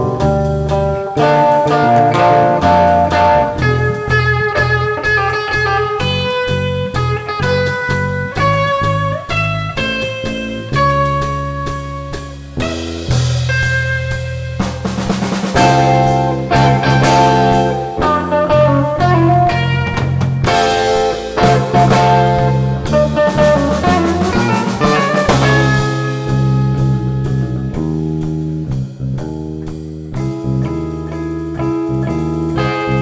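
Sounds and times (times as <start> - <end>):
blues rock band music: 0.0 - 33.0.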